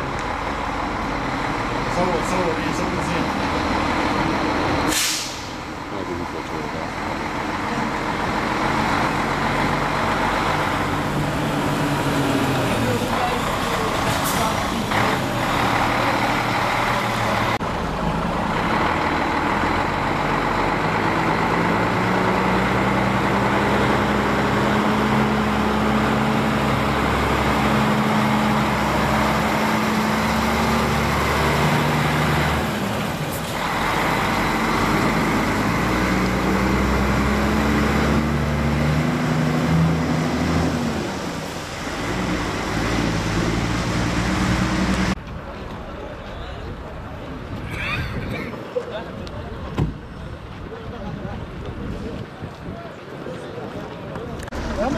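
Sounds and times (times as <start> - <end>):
diesel truck engines accelerating: 0.0 - 54.9.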